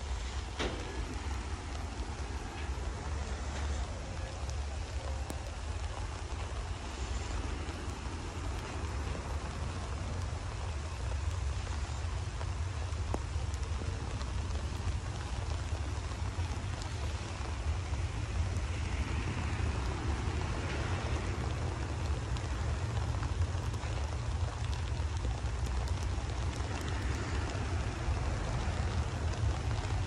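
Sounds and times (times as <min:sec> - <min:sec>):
freight train wagons rushing on rails: 0:00.0 - 0:30.0
low train rumble: 0:00.0 - 0:30.0.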